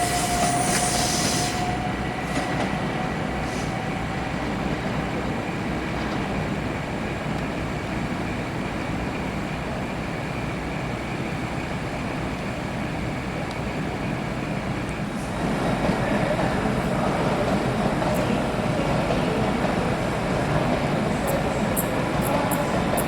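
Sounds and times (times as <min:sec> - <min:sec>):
train running: 0:00.0 - 0:23.0.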